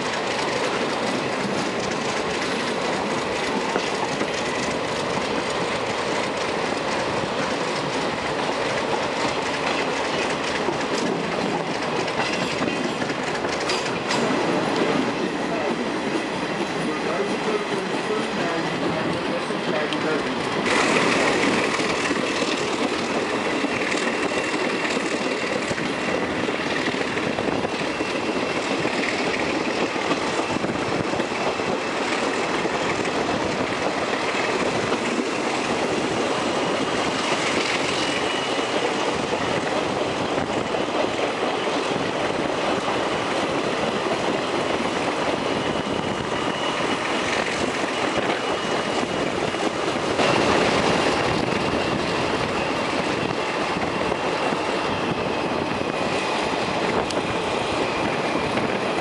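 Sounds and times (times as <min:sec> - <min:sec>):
train wheel and rail rush: 0:00.0 - 0:59.0.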